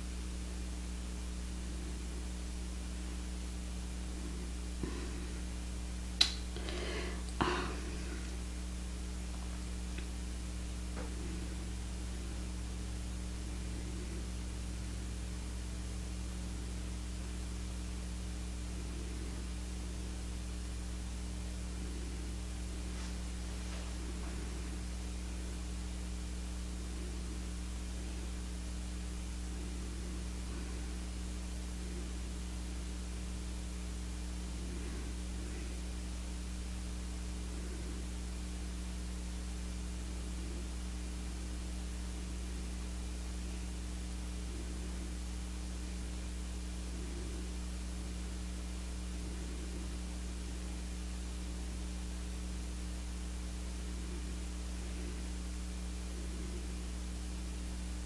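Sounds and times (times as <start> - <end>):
constant hiss: 0.0 - 58.0
electrical hum: 0.0 - 58.0.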